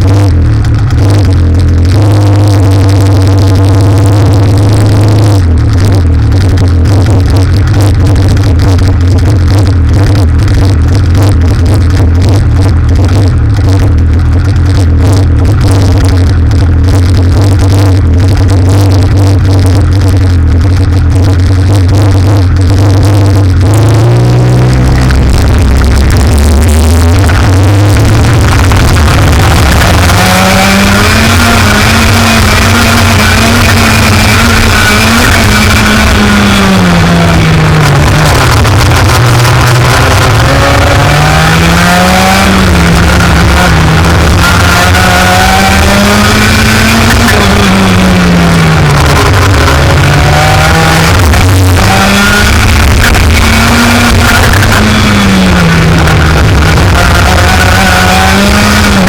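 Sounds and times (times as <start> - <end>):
racing engine revving: 0.0 - 59.0.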